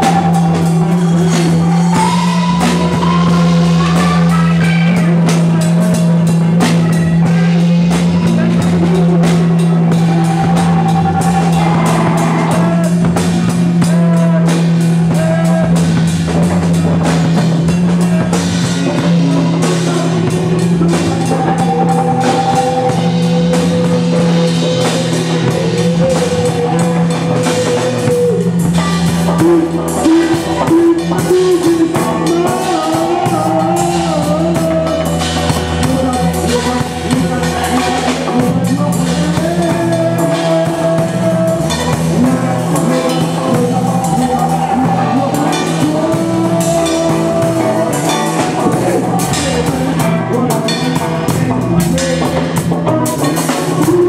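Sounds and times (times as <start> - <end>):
bass guitar: 0.0 - 54.0
drum kit with crashing cymbals: 0.0 - 54.0
electric guitars: 0.0 - 54.0.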